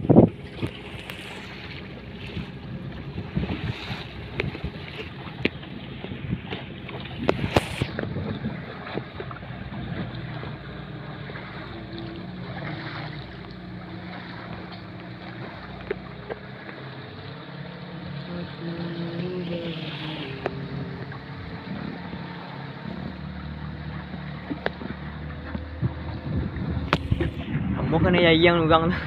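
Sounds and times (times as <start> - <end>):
wind buffeting microphone: 0.0 - 16.8, 19.0 - 29.0
boat engine running: 0.0 - 29.0
water rushing along hull: 0.0 - 29.0.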